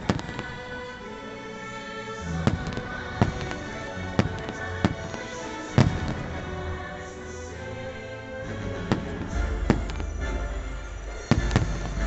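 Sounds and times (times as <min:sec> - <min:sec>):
show music with sustained tones: 0:00.0 - 0:12.0.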